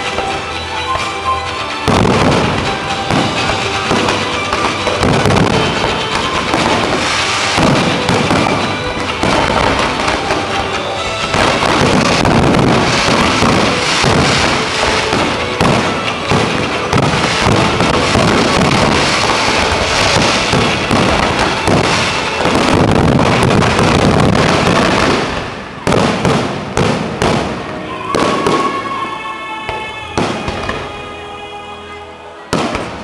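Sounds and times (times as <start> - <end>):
fireworks bangs and booms: 0.0 - 29.1, 29.7 - 31.1, 32.5 - 33.0.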